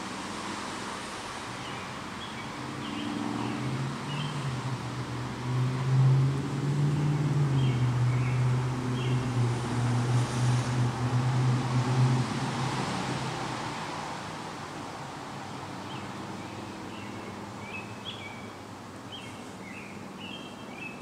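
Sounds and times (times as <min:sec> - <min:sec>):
vehicle engine hum: 0:00.0 - 0:20.8.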